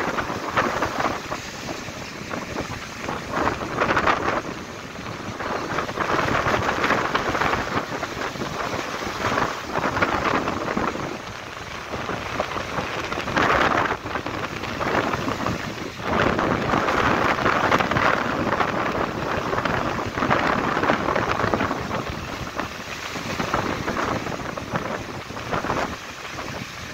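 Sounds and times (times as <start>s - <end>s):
surf breaking on a beach: 0.0s - 26.9s
wind buffeting the microphone: 0.0s - 26.9s.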